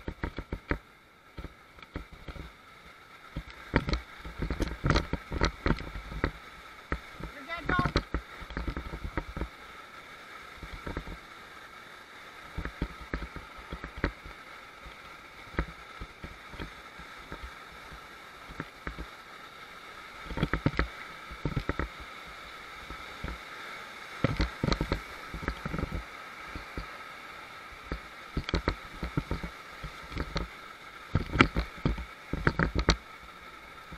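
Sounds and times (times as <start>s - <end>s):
whitewater rapids rushing: 1.6s - 33.9s.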